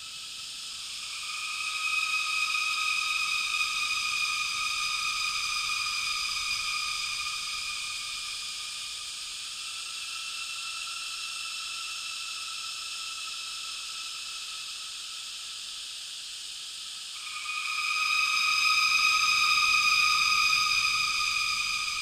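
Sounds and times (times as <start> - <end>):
eerie reverberant cicada drone: 0.0 - 22.0.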